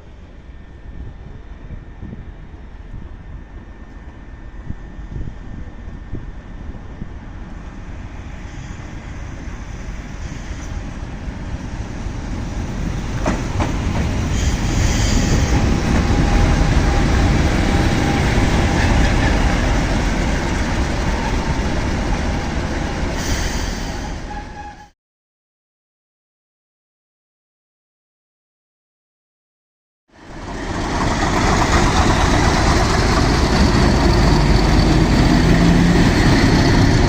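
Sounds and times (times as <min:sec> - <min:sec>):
train passing close by: 0:00.0 - 0:24.9, 0:30.1 - 0:37.0.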